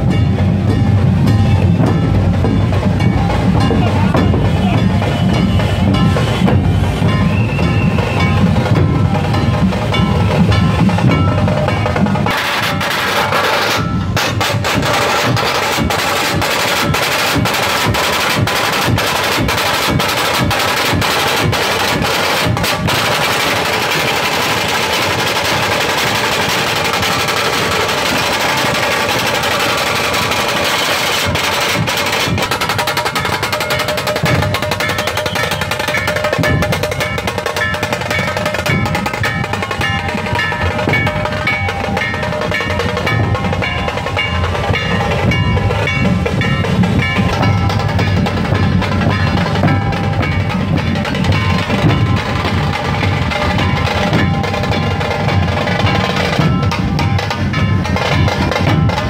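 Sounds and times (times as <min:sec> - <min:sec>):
deep barrel drum beats: 0:00.0 - 0:59.0
kettle drums stick rolls: 0:07.2 - 0:59.0.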